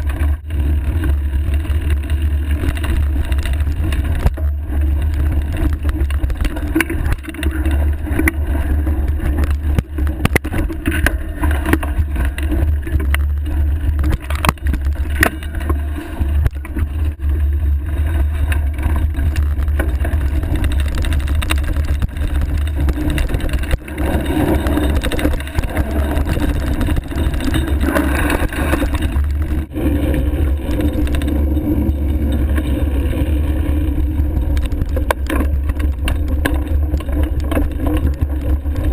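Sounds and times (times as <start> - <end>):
bike knocking and rattling: 0.0 - 38.9
bike tyres rumbling on dirt trail: 0.0 - 38.9.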